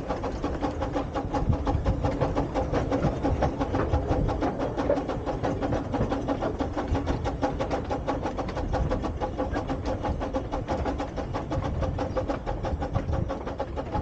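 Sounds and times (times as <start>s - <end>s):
running train rumble: 0.0s - 14.0s.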